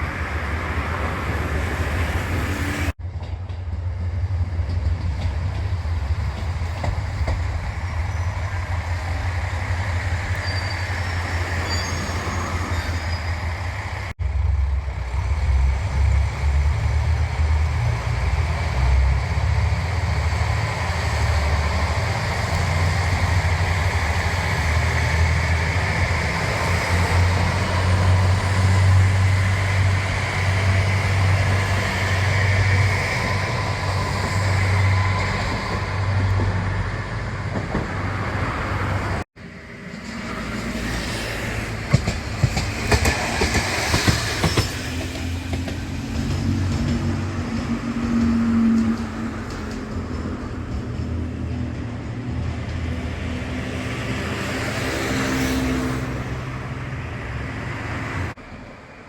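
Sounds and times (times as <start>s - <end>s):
rail vehicle rumbling on tracks: 0.0s - 59.0s.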